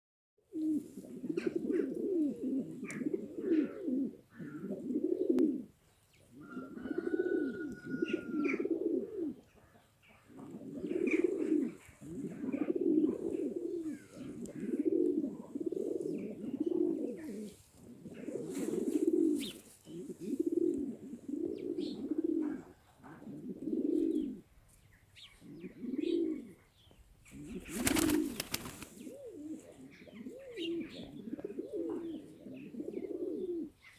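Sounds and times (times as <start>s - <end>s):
pigeons cooing: 0.5s - 24.6s, 25.2s - 33.9s.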